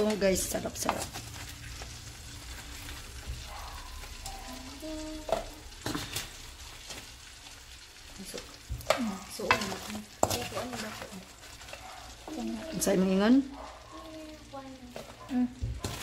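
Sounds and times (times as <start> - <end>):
spatula scraping pan: 0.0 - 13.0
crabs sizzling in hot oil: 0.0 - 16.0.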